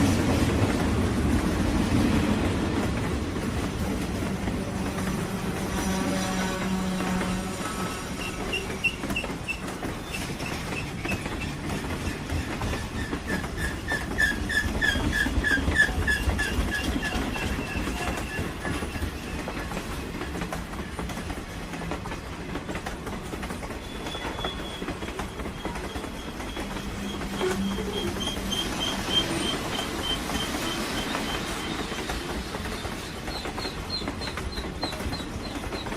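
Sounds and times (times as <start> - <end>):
train rumbling on rails: 0.0 - 35.9.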